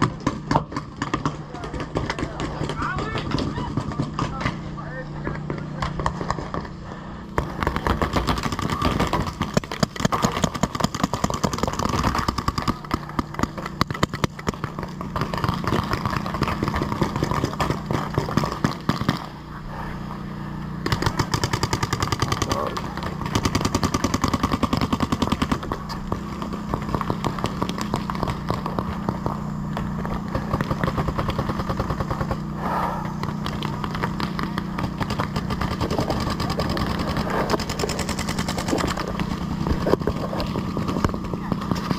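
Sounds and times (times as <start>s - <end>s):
paintball markers firing rapidly: 0.0s - 19.5s, 20.7s - 41.9s
steady low hum: 0.0s - 41.9s.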